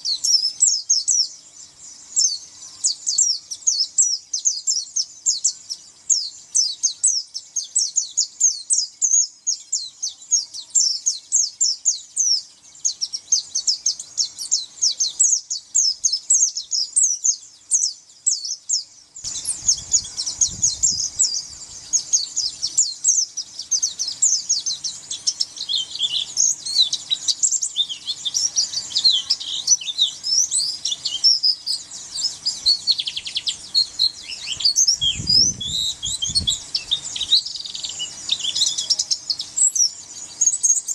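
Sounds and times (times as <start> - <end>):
bird singing high thin chirps: 0.0 - 40.9.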